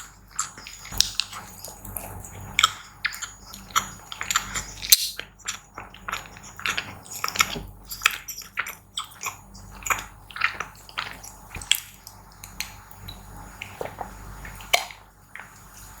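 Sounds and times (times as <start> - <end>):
chewing and wet mouth sounds: 0.0 - 16.0.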